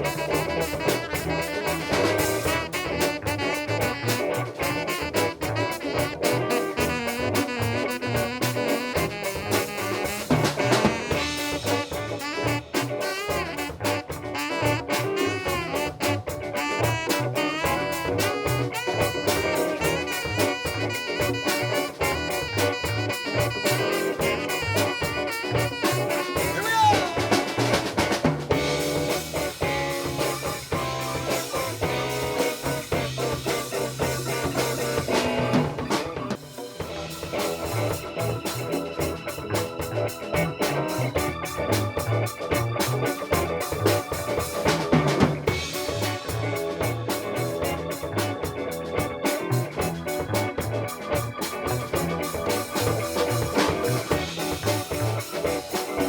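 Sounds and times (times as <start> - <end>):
drum kit beat: 0.0 - 56.0
live funk band playing: 0.0 - 56.0.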